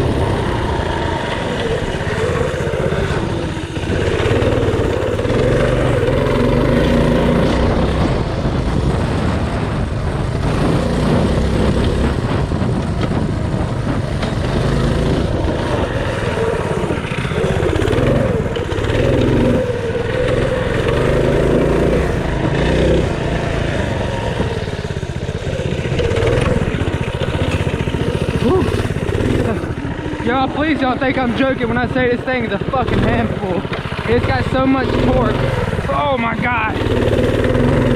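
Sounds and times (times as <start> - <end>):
mini bike engine revving: 0.0 - 37.9.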